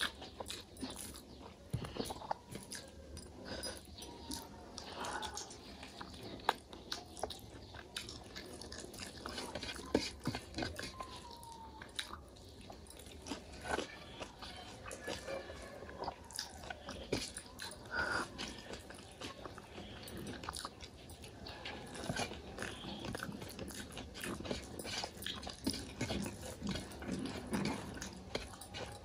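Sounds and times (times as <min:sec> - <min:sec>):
person chewing and biting food: 0:00.0 - 0:29.0.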